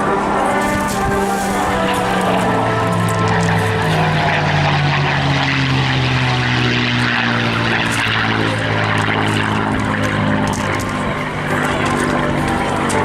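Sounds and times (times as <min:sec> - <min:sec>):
aircraft engine in flight: 0:00.0 - 0:13.0.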